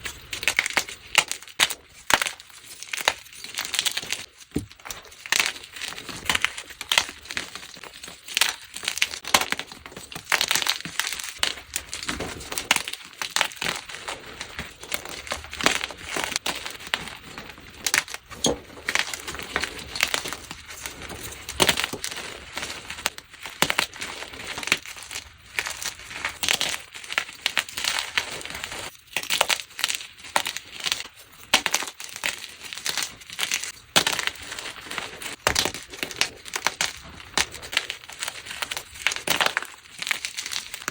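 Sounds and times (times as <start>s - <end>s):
chalk being crushed by hand: 0.0s - 40.9s.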